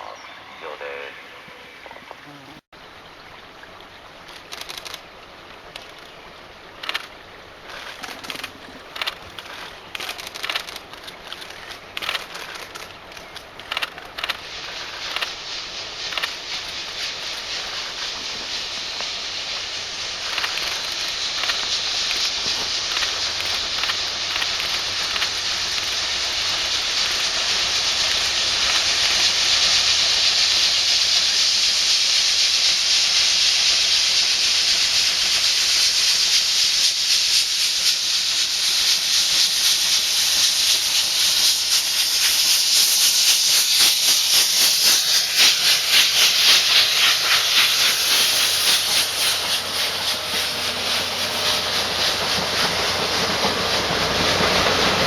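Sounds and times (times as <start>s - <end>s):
steam hissing: 0.0s - 2.6s, 5.9s - 55.0s
steam locomotive exhaust beats: 6.6s - 55.0s.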